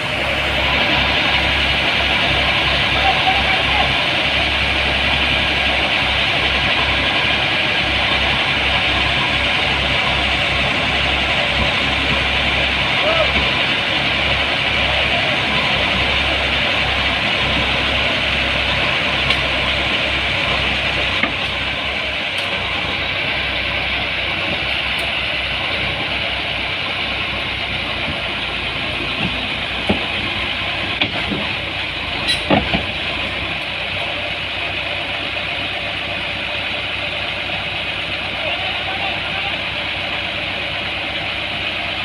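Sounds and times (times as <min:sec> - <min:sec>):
bulldozer diesel engine rumbling: 0:00.0 - 0:42.0.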